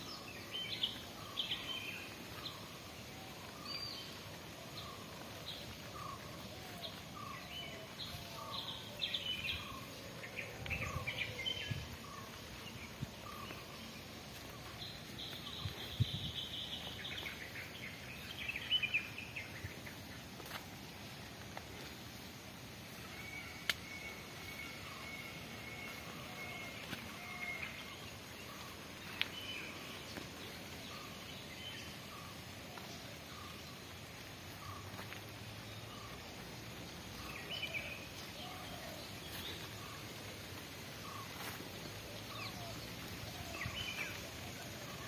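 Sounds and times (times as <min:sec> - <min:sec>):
birds chirping: 0:00.0 - 0:45.0
outdoor hiss: 0:00.0 - 0:45.0.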